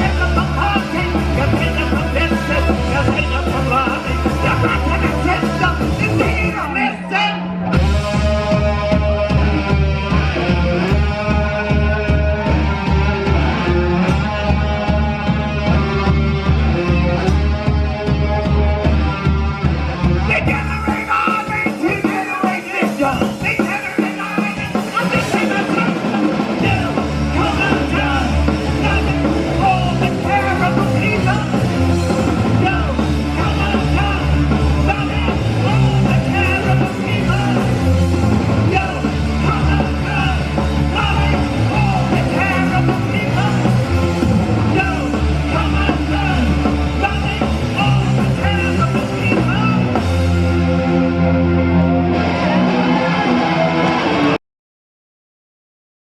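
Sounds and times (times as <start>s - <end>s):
punk rock band playing live: 0.0s - 54.4s.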